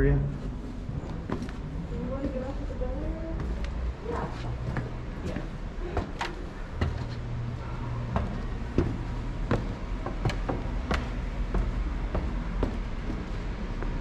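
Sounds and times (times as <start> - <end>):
low steady hum: 0.0 - 14.0
footsteps on steps and tile: 0.2 - 14.0.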